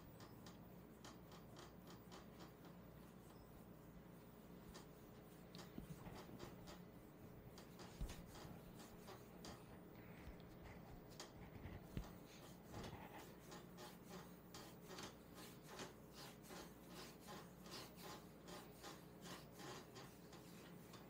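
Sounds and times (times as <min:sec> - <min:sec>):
hands rubbing oiled skin: 0:01.0 - 0:21.0.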